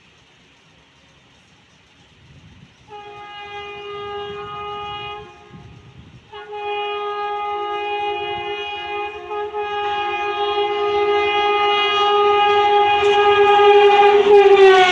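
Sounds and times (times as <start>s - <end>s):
approaching train rumble: 0.0s - 14.9s
locomotive air horn blasts: 2.8s - 14.9s.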